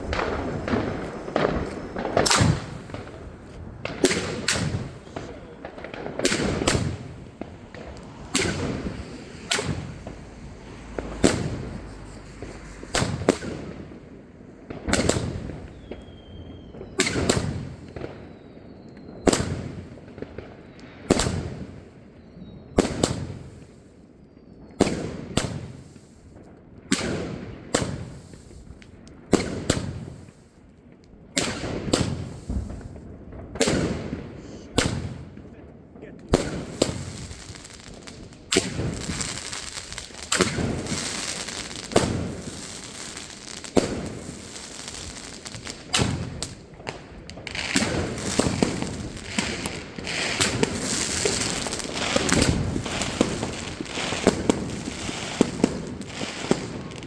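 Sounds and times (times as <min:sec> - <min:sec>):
firework cake bangs: 0:00.0 - 0:18.4, 0:19.2 - 0:20.5, 0:26.9 - 0:28.6, 0:29.3 - 0:30.3, 0:31.4 - 0:57.0.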